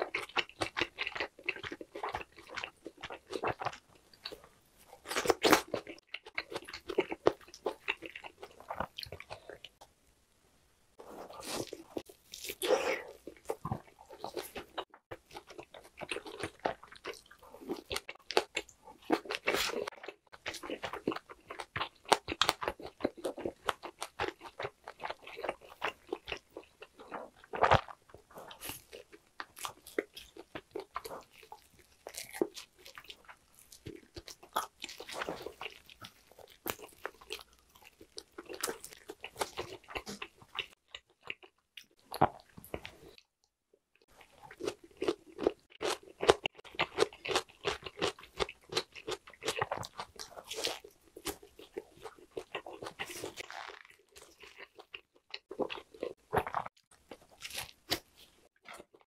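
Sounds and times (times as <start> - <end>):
meat being bitten and chewed: 0.0 - 9.8, 11.0 - 43.3, 44.0 - 59.0.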